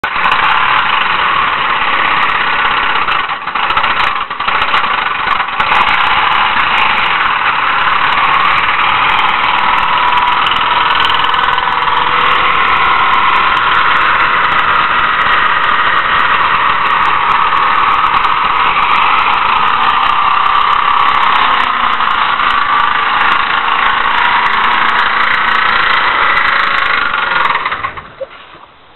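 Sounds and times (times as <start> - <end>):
engine knocking: 0.0 - 28.3.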